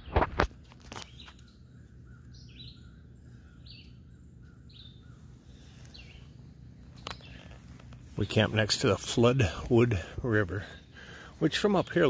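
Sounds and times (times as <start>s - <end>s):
low background rumble: 0.0s - 12.0s
bird chirping: 0.8s - 12.0s.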